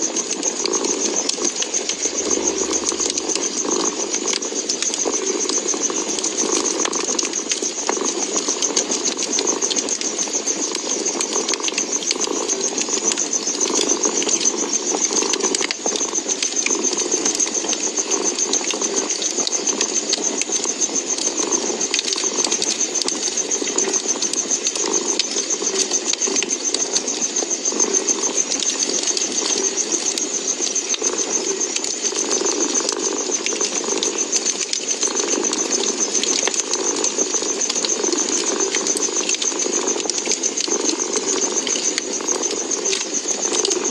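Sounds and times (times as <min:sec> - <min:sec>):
fireplace fire crackling: 0:00.0 - 0:43.9.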